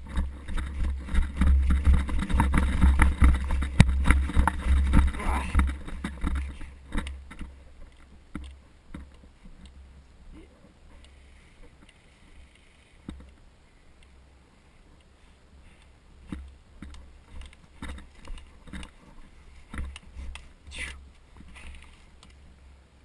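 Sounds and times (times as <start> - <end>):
rustling: 0.0 - 22.8.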